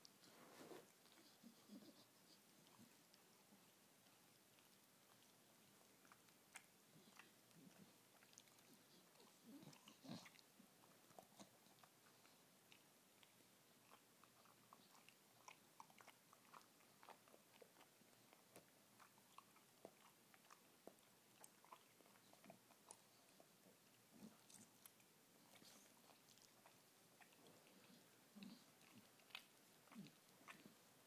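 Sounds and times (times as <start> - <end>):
dog licking and nibbling: 0.0 - 30.8.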